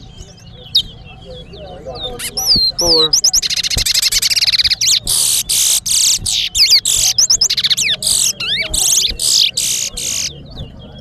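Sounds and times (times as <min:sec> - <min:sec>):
faint bird chirps: 0:00.0 - 0:11.0
finch singing rapid whistled song: 0:00.0 - 0:11.0.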